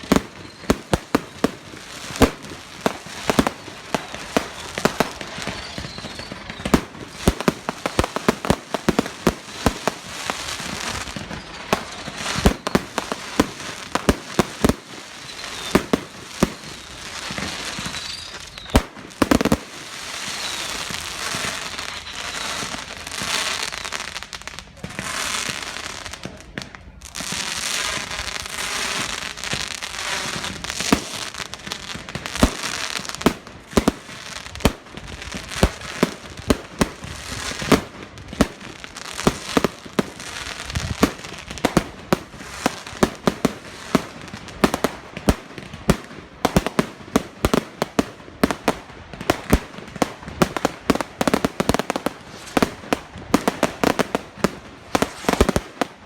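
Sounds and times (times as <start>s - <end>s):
fireworks banging: 0.0s - 23.4s, 27.2s - 56.0s
fireworks crackling: 0.0s - 56.0s.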